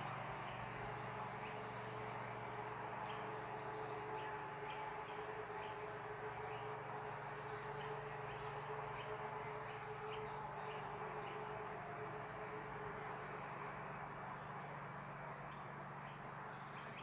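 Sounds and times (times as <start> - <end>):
distant siren steady tone: 0.0 - 17.0
low background rumble: 0.0 - 17.0.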